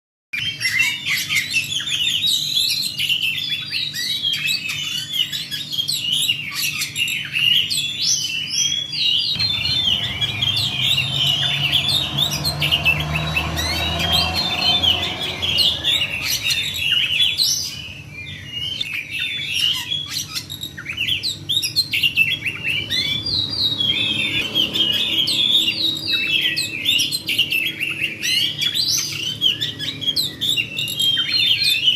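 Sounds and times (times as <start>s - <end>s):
magpie-robin singing: 0.4s - 31.9s.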